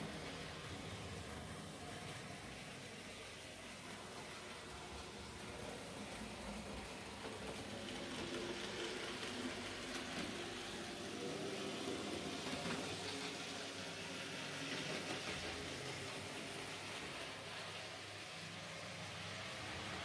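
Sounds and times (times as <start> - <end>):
model train motor humming: 0.0 - 20.0
wheels on rails: 0.0 - 20.0.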